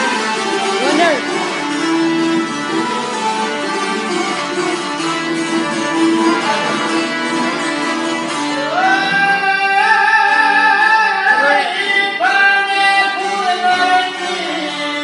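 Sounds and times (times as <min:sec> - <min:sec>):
plucked string accompaniment: 0:00.0 - 0:15.0.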